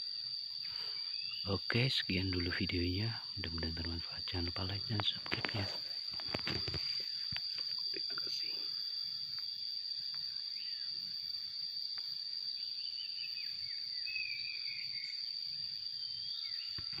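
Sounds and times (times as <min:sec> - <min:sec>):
high-pitched insect buzz: 0:00.0 - 0:17.0.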